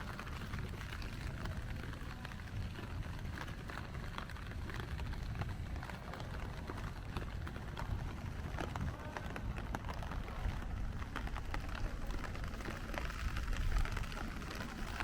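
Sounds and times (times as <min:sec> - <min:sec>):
rain on street: 0:00.0 - 0:15.0.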